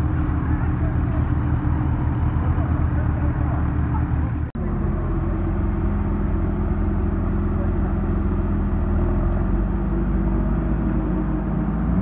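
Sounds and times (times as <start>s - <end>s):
car engine running at low revs: 0.0s - 12.0s
vee eight engine at low revs: 0.0s - 12.0s.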